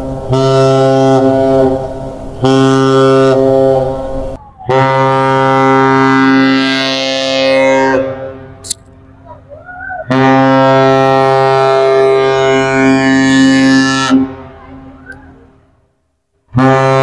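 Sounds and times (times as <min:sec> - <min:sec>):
deep ship's horn blasts: 0:00.0 - 0:08.6, 0:10.1 - 0:15.0, 0:16.5 - 0:17.0.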